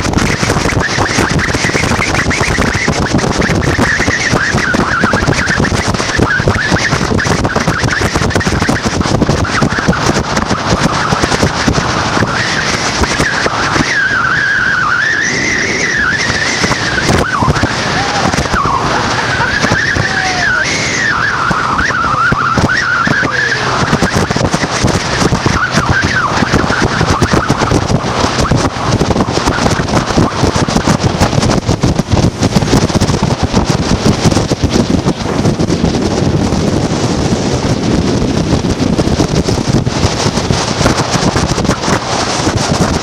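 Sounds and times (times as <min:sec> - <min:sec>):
motorboat engine whining: 0:00.0 - 0:43.0
wind buffeting microphone: 0:00.0 - 0:43.0.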